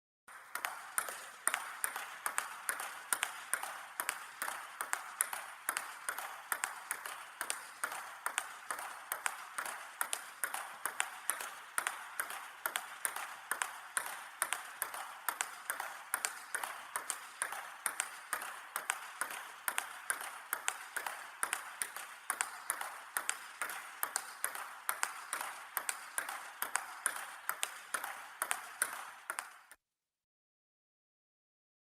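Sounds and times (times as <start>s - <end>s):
ping-pong ball clicking: 0.5s - 29.8s.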